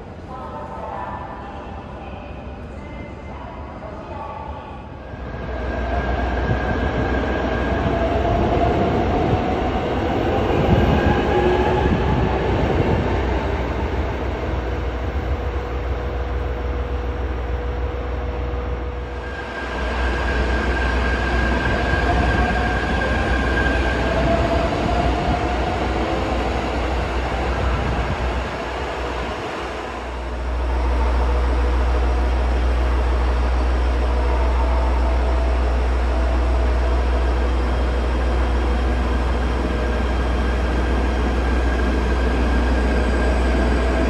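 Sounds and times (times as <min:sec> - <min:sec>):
train wheels rumbling on rail: 0:05.2 - 0:44.0.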